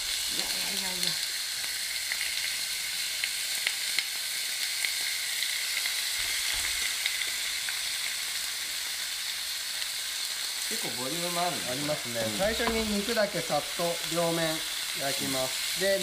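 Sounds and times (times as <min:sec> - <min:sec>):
meat sizzling in a hot pan: 0:00.0 - 0:16.0.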